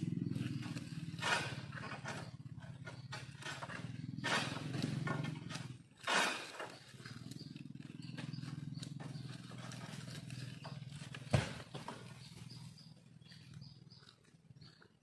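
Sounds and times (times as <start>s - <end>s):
sickle grinding and rasping: 0.0s - 15.0s.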